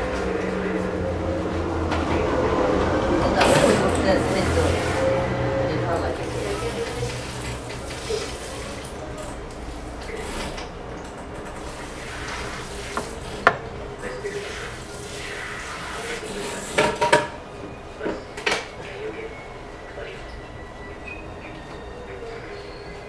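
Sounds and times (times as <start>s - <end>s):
indistinct background voices: 0.0s - 23.0s.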